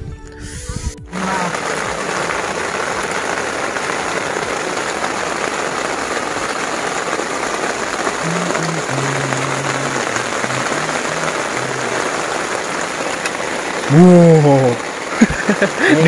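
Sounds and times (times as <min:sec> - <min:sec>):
steady rain falling: 0:01.1 - 0:16.0.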